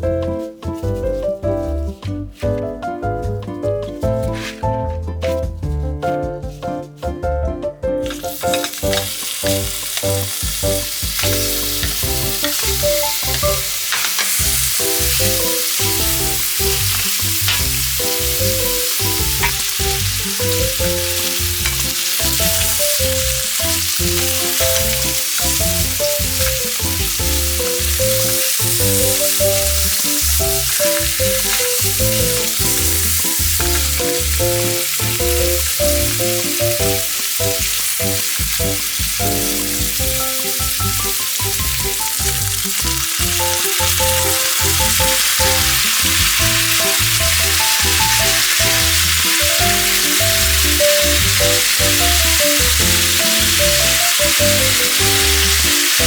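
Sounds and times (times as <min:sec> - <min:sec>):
background music: 0:00.0 - 0:56.0
meat sizzling in a pan: 0:08.0 - 0:56.0.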